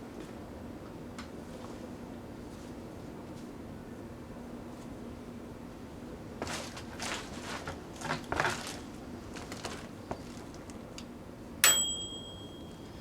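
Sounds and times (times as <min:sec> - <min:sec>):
microwave running: 0:00.0 - 0:13.0.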